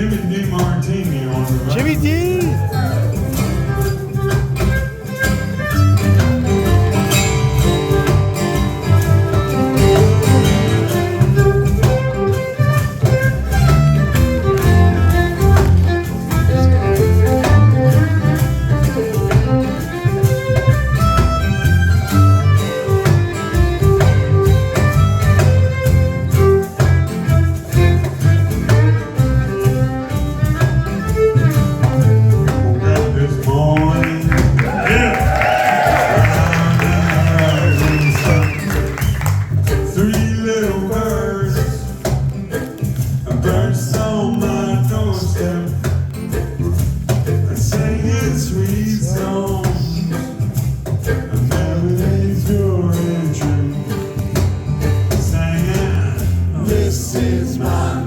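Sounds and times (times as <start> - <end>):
bass: 0.0 - 58.0
guitar: 0.0 - 58.0
reggae band playing: 0.0 - 58.0.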